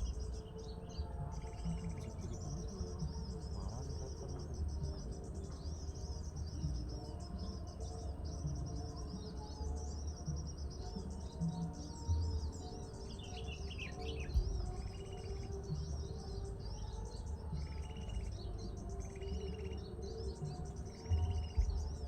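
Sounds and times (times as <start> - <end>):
small birds twittering: 0.0 - 22.0.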